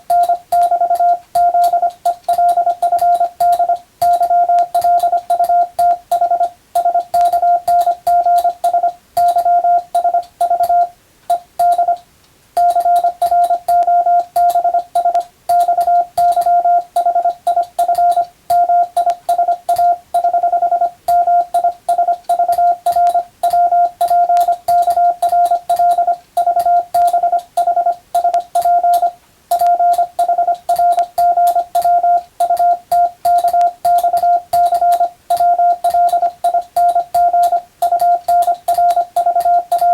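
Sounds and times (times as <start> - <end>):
morse code tone: 0.0 - 12.0, 12.6 - 39.9.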